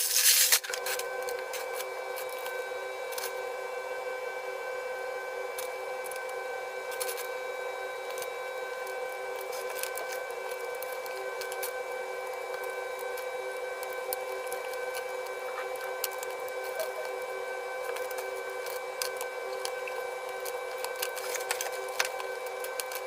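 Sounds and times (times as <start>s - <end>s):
hum of fixed tones: 1.0s - 23.0s.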